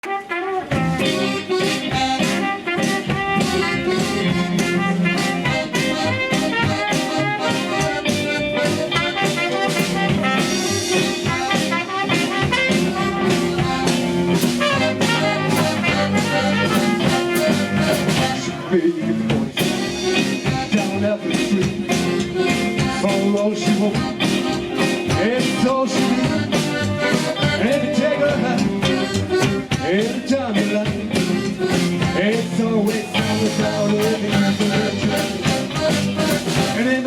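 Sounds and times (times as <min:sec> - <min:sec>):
brass horns melody: 0:00.0 - 0:30.8, 0:31.5 - 0:37.0
drum kit: 0:00.0 - 0:37.0.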